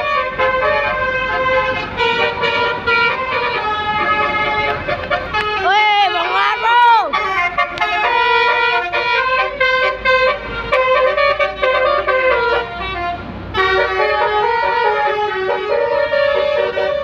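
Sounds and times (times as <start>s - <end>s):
musical bus horn playing a tune: 0.0s - 17.0s.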